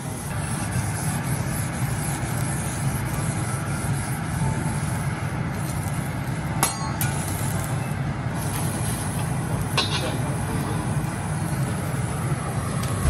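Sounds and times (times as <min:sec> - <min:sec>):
sizzling hiss on a griddle: 0:00.0 - 0:13.0.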